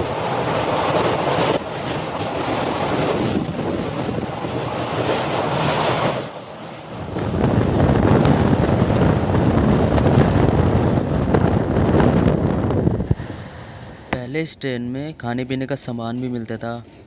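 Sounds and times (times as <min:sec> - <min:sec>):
train wheels rumbling: 0:00.0 - 0:14.6
wind rushing over microphone: 0:00.0 - 0:14.6.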